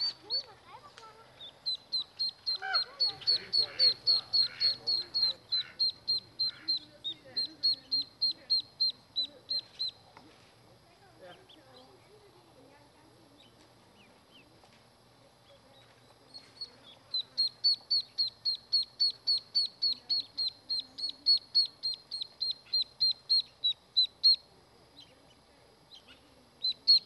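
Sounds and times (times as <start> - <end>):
ducklings peeping: 0.0 - 10.2, 13.4 - 14.5, 16.2 - 27.0.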